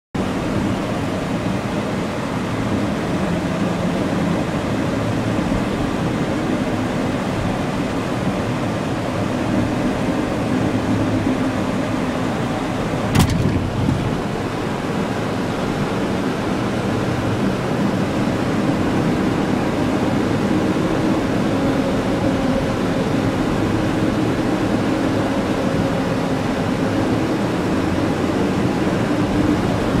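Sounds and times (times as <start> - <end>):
truck engine and road noise: 0.2 - 30.0.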